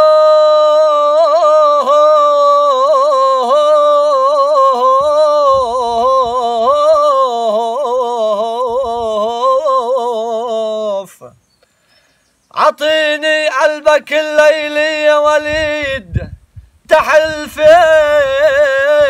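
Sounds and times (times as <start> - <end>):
man singing unaccompanied: 0.0 - 11.4, 12.5 - 19.0.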